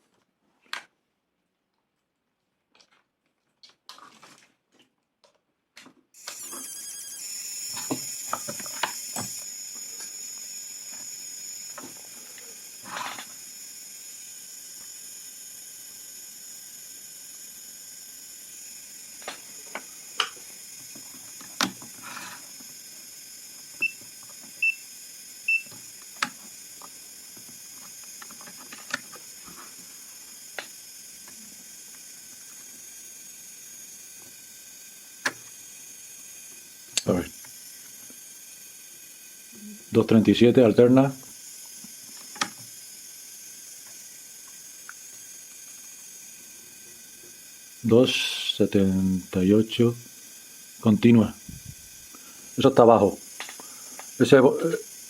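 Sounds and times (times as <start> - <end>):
high-pitched hiss and whine: 6.2 - 55.0.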